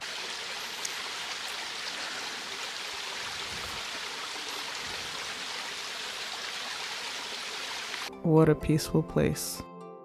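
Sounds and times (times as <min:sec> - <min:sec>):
stream trickling and splashing: 0:00.0 - 0:08.1.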